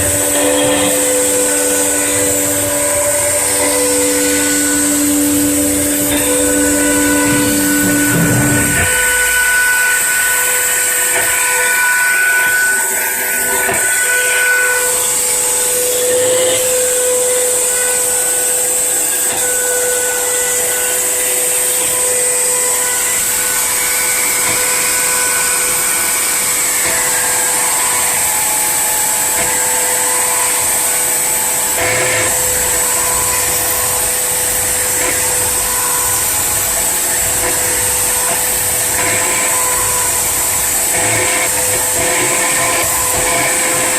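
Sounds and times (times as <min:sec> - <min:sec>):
spindle motor high whine: 0:00.0 - 0:43.9.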